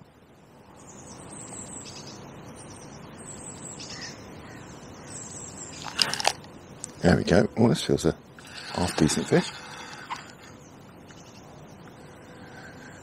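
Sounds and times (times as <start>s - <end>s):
outdoor hush: 0.0s - 13.0s
small birds twittering: 0.0s - 13.0s.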